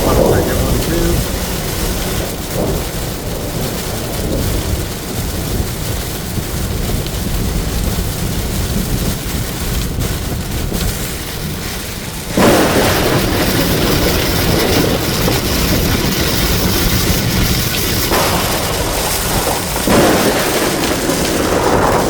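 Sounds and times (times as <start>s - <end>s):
heavy rain on vehicle: 0.0s - 22.0s
road and tyre noise: 0.0s - 22.0s.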